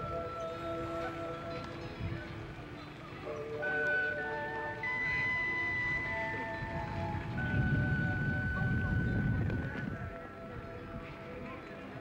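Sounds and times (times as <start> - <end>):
music of sustained held notes: 0.0 - 12.0.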